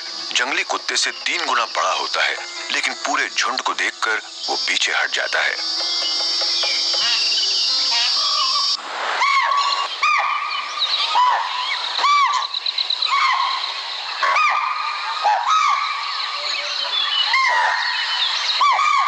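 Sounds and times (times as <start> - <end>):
deer alarm calls: 0.0 - 19.0.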